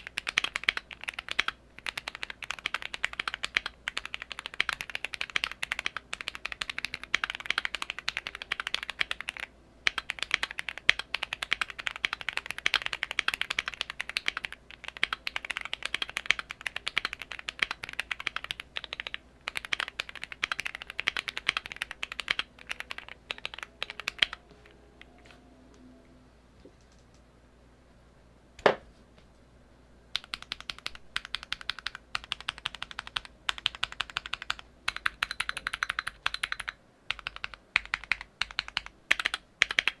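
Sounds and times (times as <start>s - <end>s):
fast typing on mechanical keyboard: 0.0s - 24.4s, 30.1s - 40.0s.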